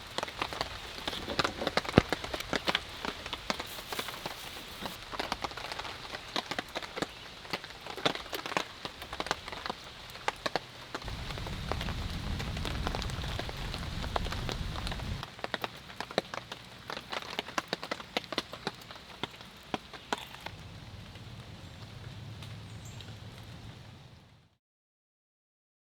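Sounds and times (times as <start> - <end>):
rain falling: 0.0 - 24.6.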